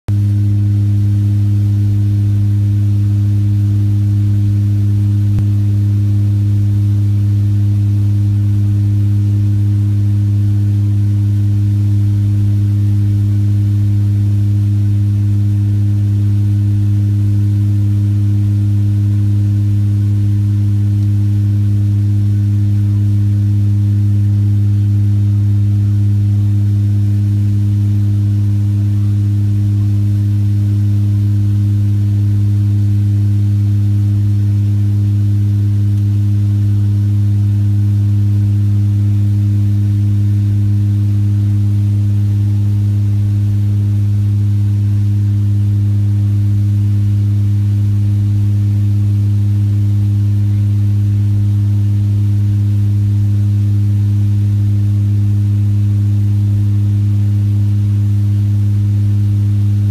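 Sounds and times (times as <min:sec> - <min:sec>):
aircraft engine drone in cabin: 0:00.1 - 0:59.9.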